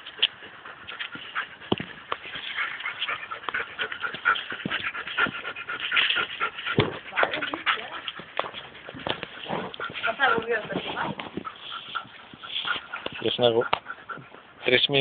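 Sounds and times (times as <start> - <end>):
dogs playing and scuffling: 0.0 - 15.0.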